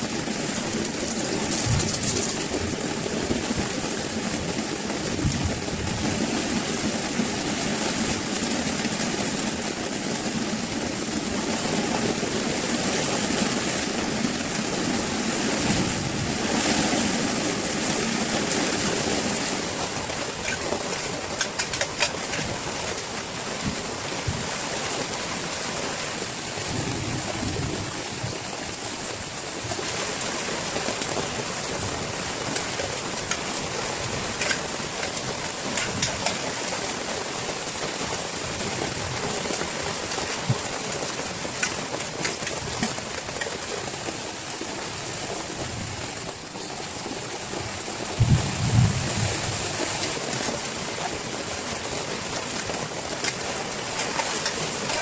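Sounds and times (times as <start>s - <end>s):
heavy rain pouring: 0.0s - 55.0s
sharp ticks of raindrops: 0.0s - 55.0s.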